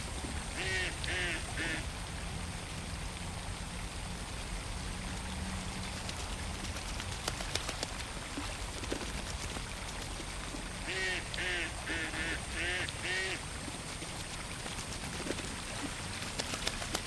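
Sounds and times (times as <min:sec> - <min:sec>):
soft wash of water: 0:00.0 - 0:17.0
sharp water clicks: 0:00.1 - 0:17.0.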